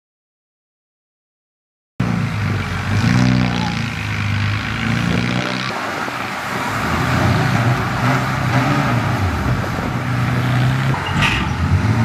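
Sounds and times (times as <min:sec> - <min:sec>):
diesel engine running: 0:02.0 - 0:12.0.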